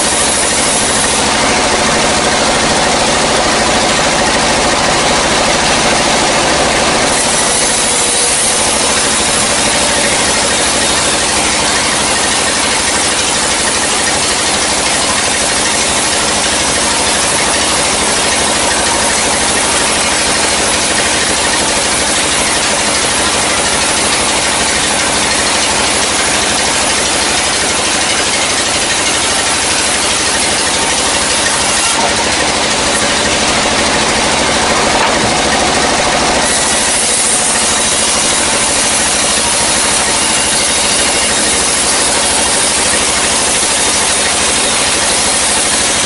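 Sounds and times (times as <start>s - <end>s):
band saw cutting log: 0.0s - 46.0s
machine hum: 0.0s - 46.0s.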